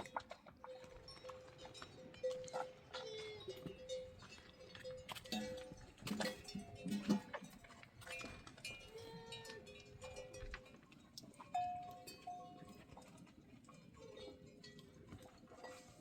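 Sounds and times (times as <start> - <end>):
livestock bells clanking: 0.6 - 16.0.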